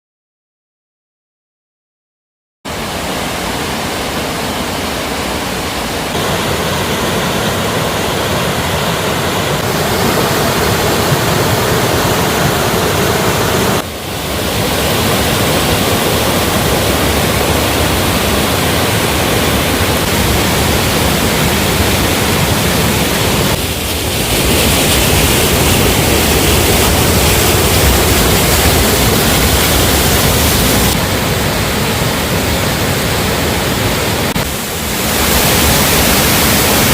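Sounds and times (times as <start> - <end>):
waterfall rushing: 2.7 - 36.9.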